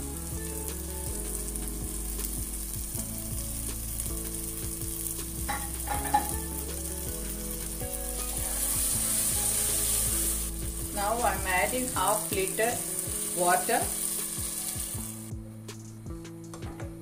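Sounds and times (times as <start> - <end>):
food sizzling in a pan: 0.0 - 15.3.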